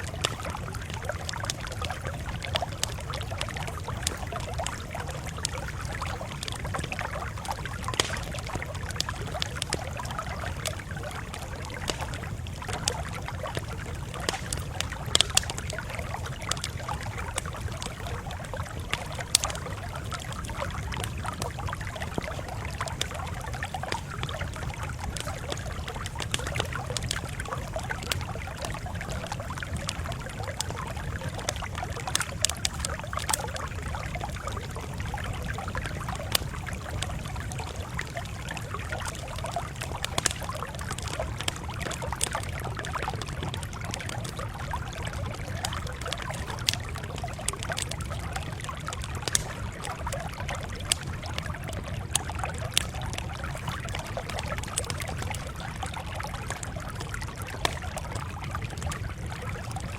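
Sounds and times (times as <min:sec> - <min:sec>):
loud fire pops: 0:00.0 - 0:58.0
campfire crackling: 0:00.0 - 0:59.9.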